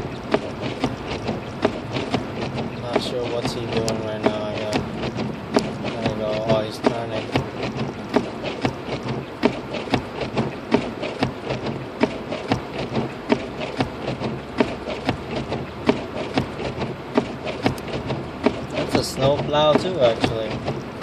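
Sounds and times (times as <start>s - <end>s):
car road and engine hum: 0.0s - 21.0s.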